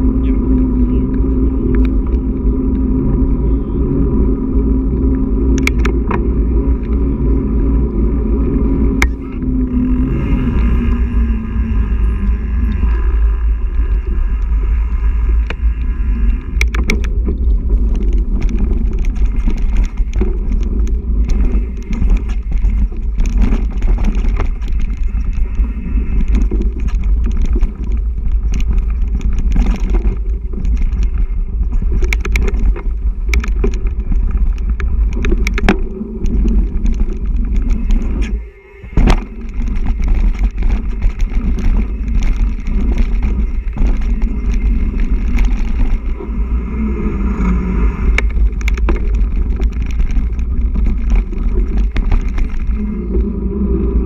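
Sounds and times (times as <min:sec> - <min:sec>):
bike rattling over bumps: 0:00.0 - 0:54.0
wind and tyres rumbling: 0:00.0 - 0:54.0.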